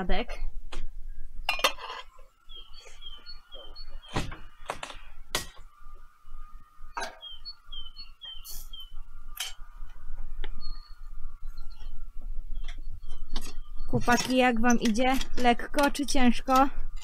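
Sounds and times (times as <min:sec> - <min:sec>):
small birds chirping: 0:01.0 - 0:17.0.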